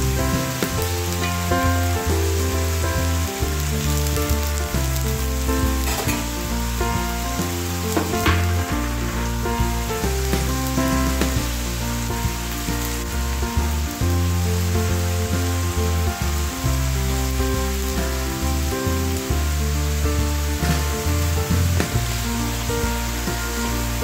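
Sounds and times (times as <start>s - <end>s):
background music with bass: 0.0s - 24.0s
vegetables sizzling in a pan: 0.0s - 24.0s.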